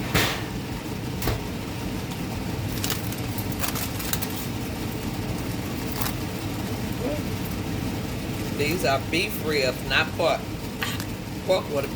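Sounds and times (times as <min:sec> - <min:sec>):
electric fan humming: 0:00.0 - 0:11.9.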